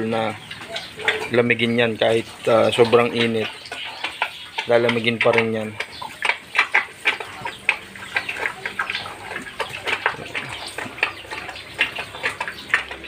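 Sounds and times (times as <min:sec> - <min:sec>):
sharp animal calls: 0:00.0 - 0:13.0
water from hose splashing: 0:00.0 - 0:13.0.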